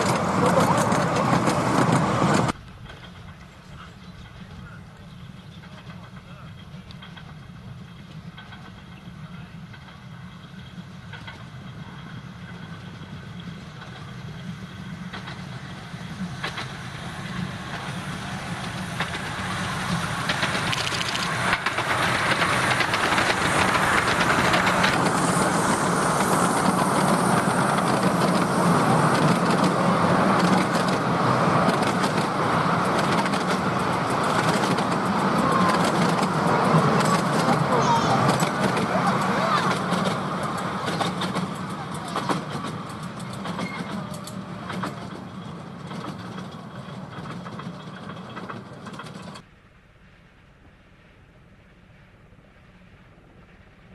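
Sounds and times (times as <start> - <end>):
miniature steam train running: 0.0 - 49.5.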